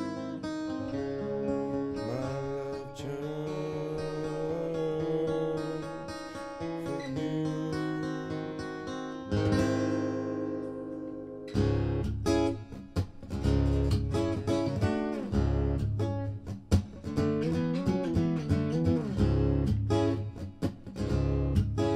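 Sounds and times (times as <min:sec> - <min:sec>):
acoustic guitar playing: 0:00.0 - 0:21.9.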